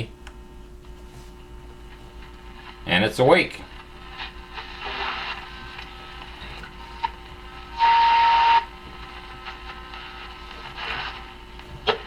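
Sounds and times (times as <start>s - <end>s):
radio hiss and static: 1.2s - 12.0s.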